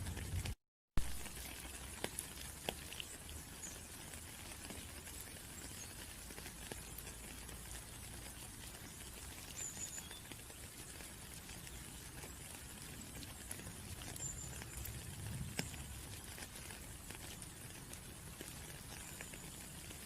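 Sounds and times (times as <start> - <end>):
rain patter: 0.0 - 20.0
single raindrops landing close: 0.0 - 20.0.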